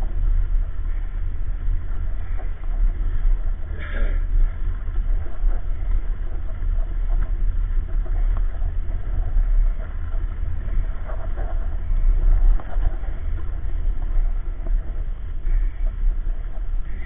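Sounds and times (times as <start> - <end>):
stroller rolling over asphalt: 0.0 - 17.0
wind buffeting microphone: 0.0 - 17.0.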